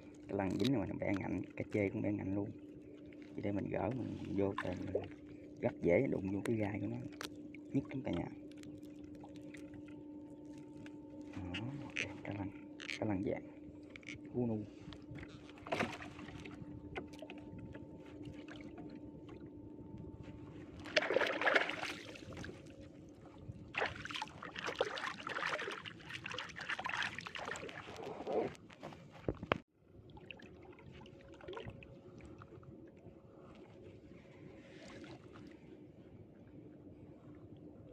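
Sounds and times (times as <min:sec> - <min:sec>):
faint steady hum: 0:00.0 - 0:37.9
water splashing and sloshing: 0:00.0 - 0:37.9.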